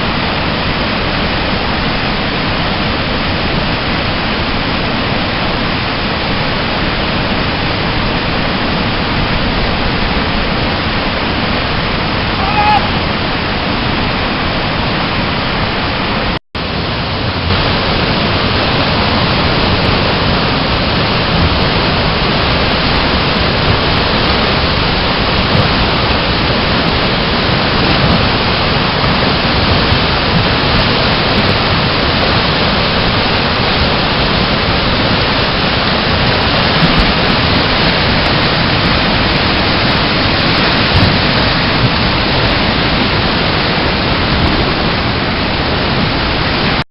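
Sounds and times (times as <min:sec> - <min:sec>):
whitewater rushing: 0:00.0 - 0:46.8.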